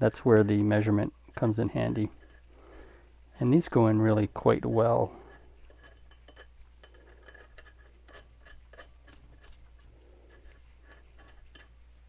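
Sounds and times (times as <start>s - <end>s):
light metal clicks and scrapes: 0.1s - 3.0s, 3.7s - 12.0s.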